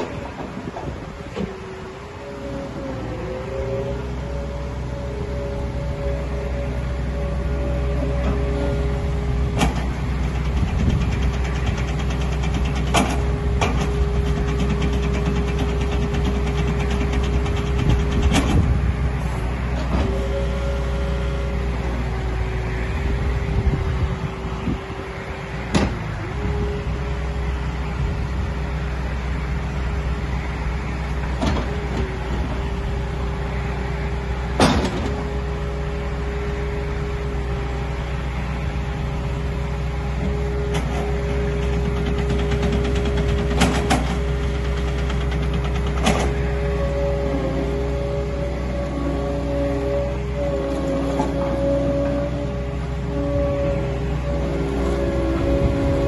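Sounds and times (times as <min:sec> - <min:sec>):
diesel engine running: 0:00.0 - 0:56.0
hydraulic whine: 0:00.0 - 0:56.0.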